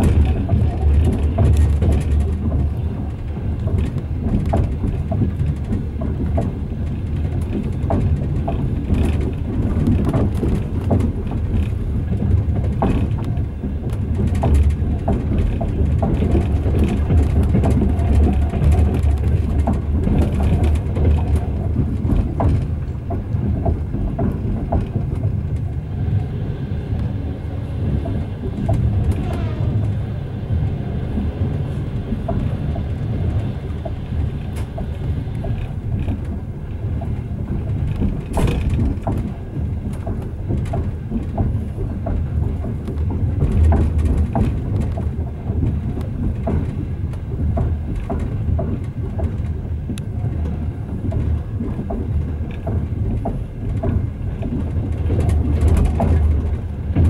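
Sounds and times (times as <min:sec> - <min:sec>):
wheel clicks and knocks: 0:00.0 - 0:25.8, 0:27.8 - 0:57.0
train coach rumble: 0:00.0 - 0:57.0.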